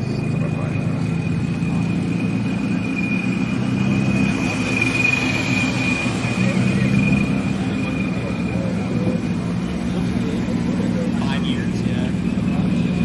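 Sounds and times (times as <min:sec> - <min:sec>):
car engine running: 0:00.0 - 0:13.0
high-pitched whine: 0:00.0 - 0:13.0.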